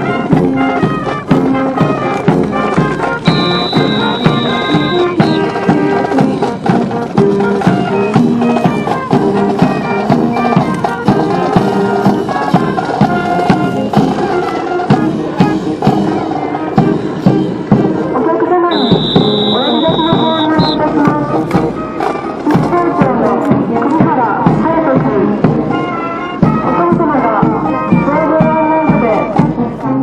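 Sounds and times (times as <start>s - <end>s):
brass band playing a march: 0.0s - 30.0s.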